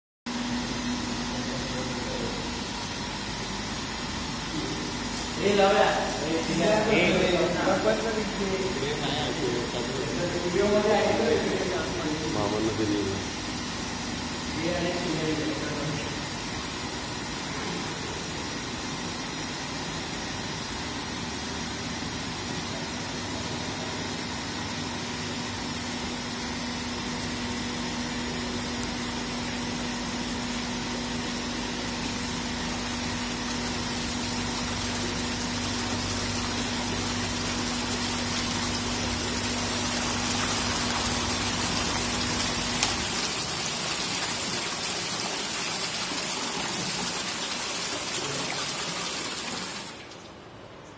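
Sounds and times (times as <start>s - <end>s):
water gushing: 0.4s - 50.5s.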